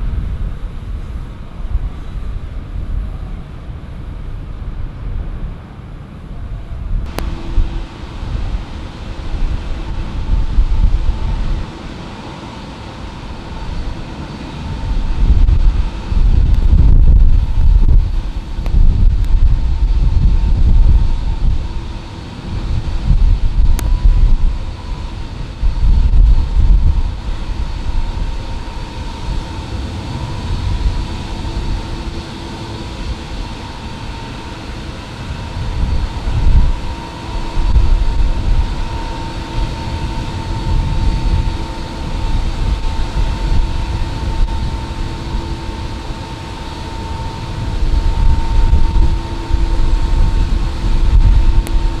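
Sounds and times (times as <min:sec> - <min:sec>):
wind rumbling on microphone: 0:00.0 - 0:52.0
jet engines whining: 0:07.1 - 0:52.0.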